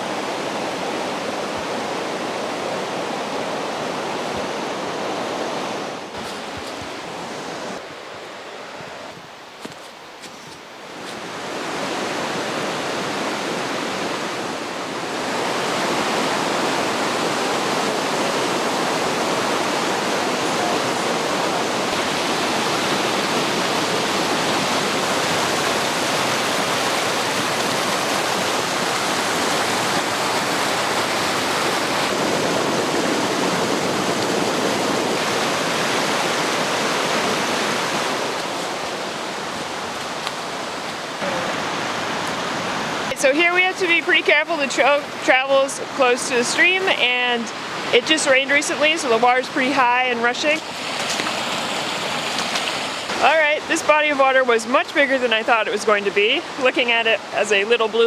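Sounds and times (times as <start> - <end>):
stream rushing over waterfalls: 0.0 - 58.0.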